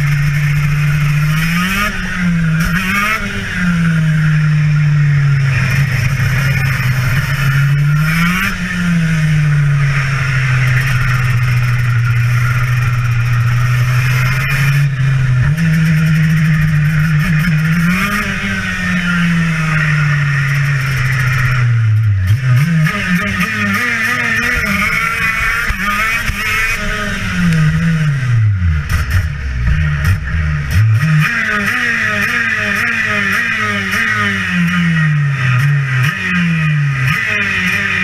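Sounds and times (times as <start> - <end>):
kart engine at racing speed: 0.0 - 38.0.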